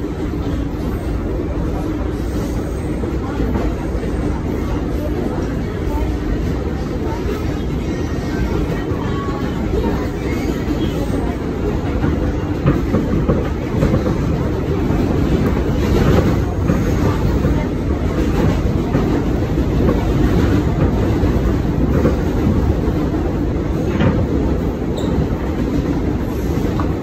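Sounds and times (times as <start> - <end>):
subway car rumbling: 0.0 - 27.0.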